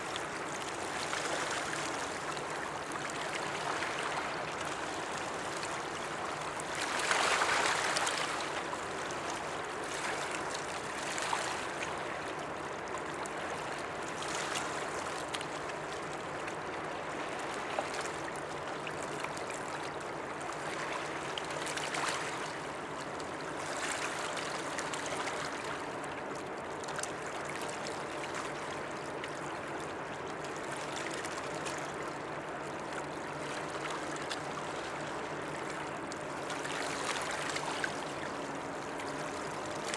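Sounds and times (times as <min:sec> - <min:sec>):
water lapping against shore: 0:00.0 - 0:39.9.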